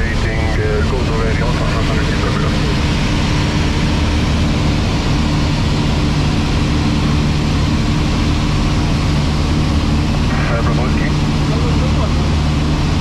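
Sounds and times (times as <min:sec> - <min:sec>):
airplane engine droning in cockpit: 0:00.0 - 0:13.0.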